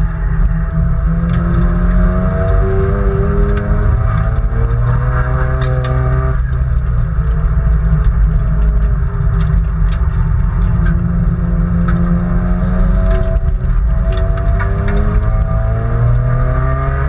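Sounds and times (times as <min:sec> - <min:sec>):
car engine revving: 0:00.0 - 0:17.0
road and cabin noise: 0:00.0 - 0:17.0.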